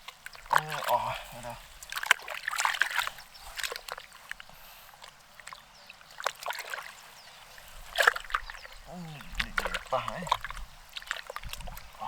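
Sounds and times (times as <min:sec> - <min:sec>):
splashes in muddy water: 0:00.0 - 0:12.0.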